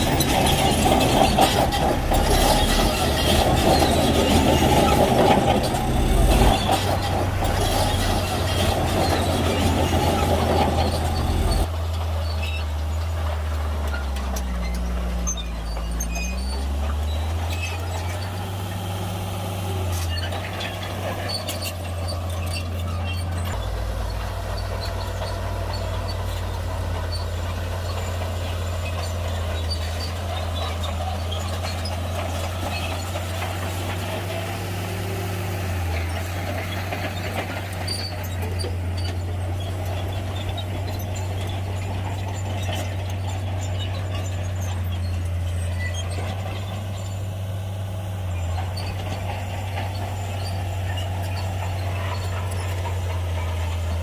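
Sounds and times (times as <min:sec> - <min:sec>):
bulldozer diesel engine drone: 0:00.0 - 0:54.0.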